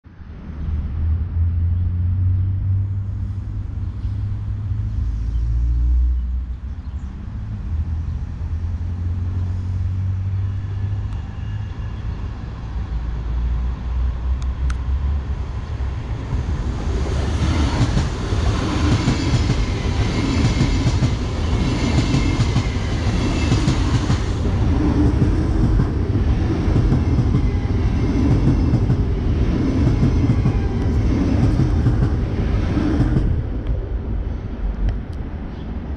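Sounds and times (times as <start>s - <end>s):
electric train passing: 0.2s - 35.9s.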